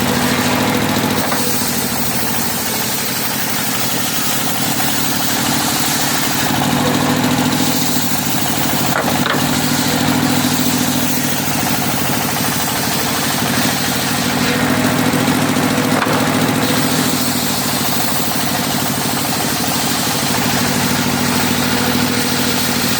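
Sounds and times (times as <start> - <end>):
sawmill engine running: 0.0 - 22.9.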